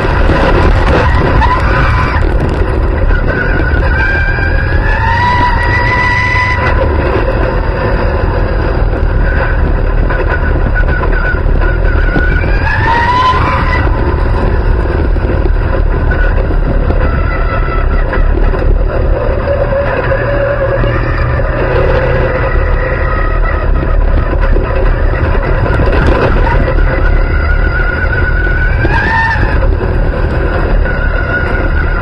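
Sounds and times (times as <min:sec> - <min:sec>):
race car engine running: 0:00.0 - 0:32.0.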